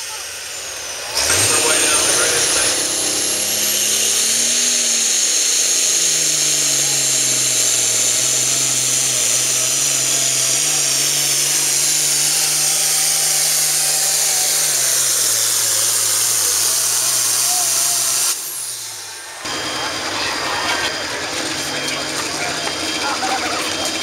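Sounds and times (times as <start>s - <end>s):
high turbo whine: 0.0s - 24.0s
tractor diesel engine roaring: 0.0s - 24.0s.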